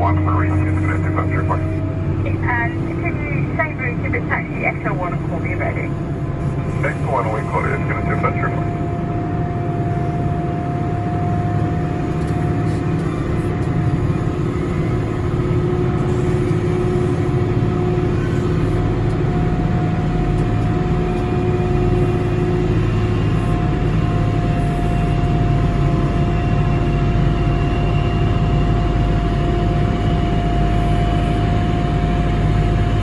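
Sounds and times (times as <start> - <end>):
aircraft low rumble: 0.0 - 33.0.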